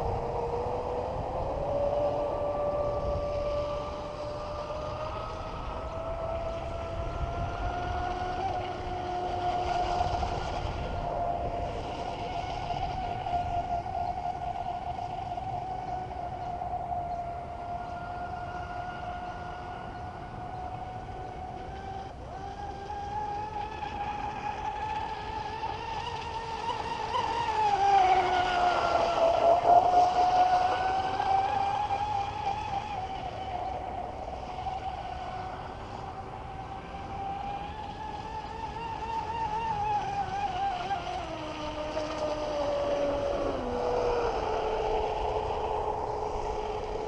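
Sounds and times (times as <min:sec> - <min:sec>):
rc boat electric motor whining: 0:00.0 - 0:47.0.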